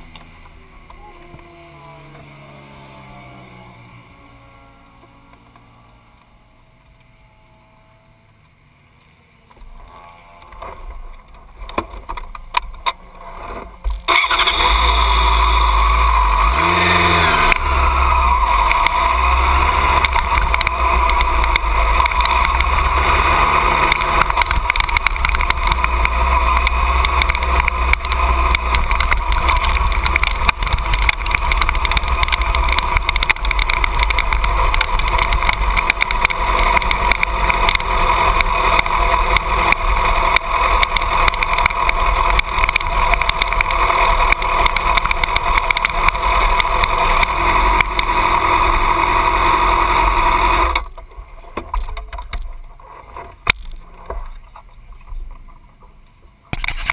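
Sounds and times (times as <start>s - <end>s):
motorcycle engine revving: 0.0s - 8.4s, 9.3s - 51.1s.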